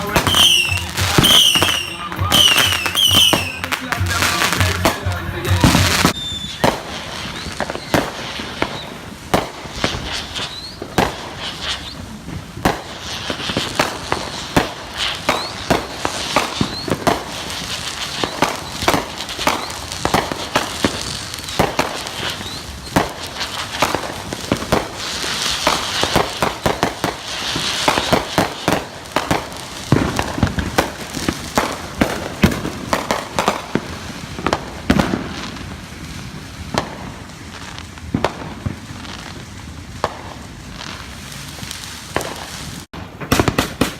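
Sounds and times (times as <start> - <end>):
firecrackers banging: 0.0 - 43.9
firework crackling: 0.0 - 43.9
rising firework whistles: 0.0 - 43.9.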